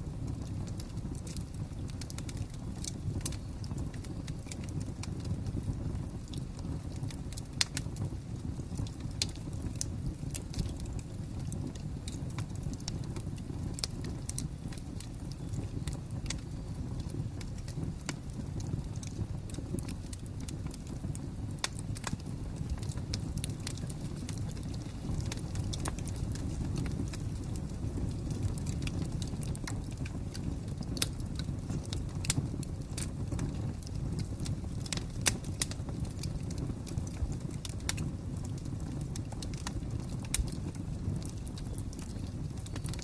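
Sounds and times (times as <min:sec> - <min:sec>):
fire popping and snapping: 0:00.0 - 0:43.0
wood fire crackling: 0:00.0 - 0:43.0.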